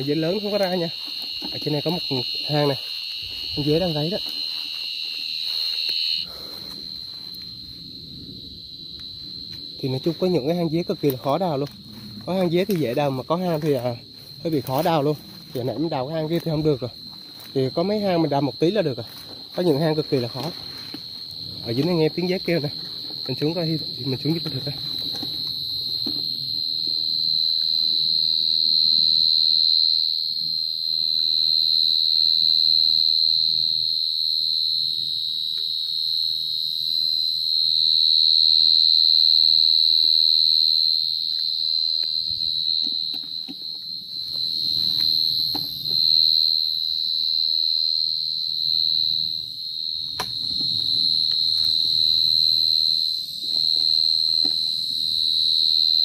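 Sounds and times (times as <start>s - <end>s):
cricket trilling: 0.0s - 56.0s.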